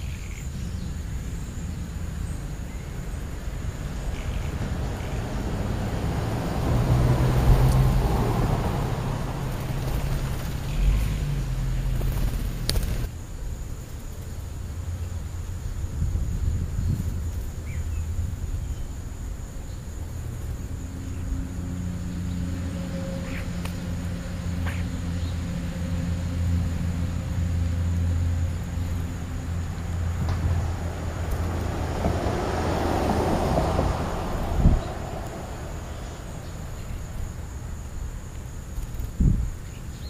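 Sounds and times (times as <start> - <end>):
vehicle engine hum: 0.0 - 13.2, 14.2 - 40.0
road noise of passing vehicle: 0.0 - 40.0.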